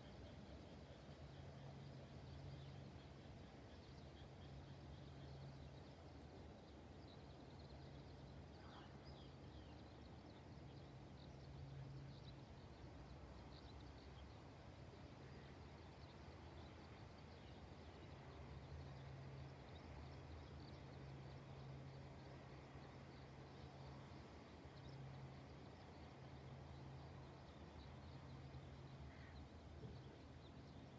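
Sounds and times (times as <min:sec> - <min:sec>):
low steady hum: 0:00.0 - 0:30.9.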